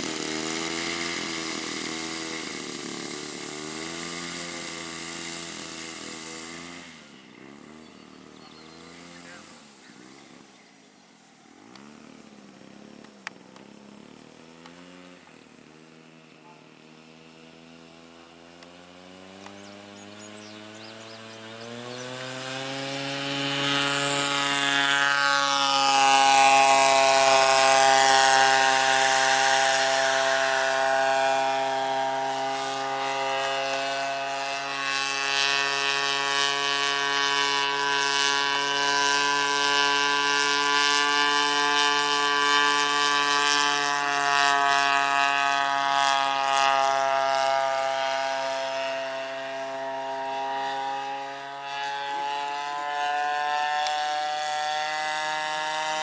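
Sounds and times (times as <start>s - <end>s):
model airplane engine: 0.0s - 56.0s.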